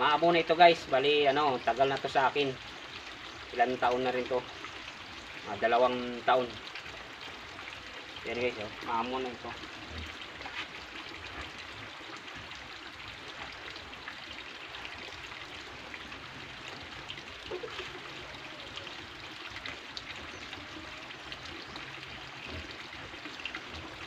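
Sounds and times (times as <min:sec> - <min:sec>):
flowing water hiss: 0:00.0 - 0:24.0.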